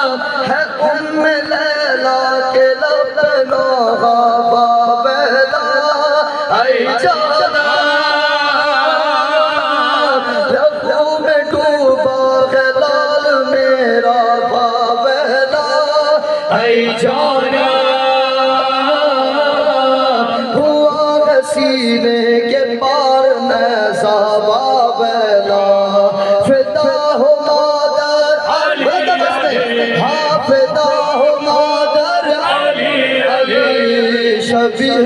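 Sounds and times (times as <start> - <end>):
men chanting a lament: 0.0 - 35.0.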